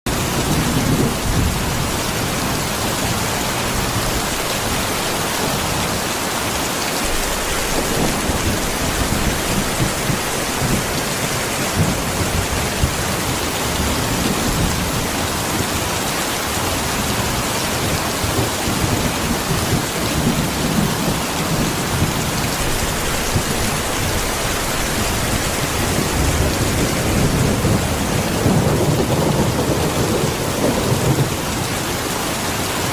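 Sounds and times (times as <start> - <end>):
heavy rain pouring: 0.1 - 32.9.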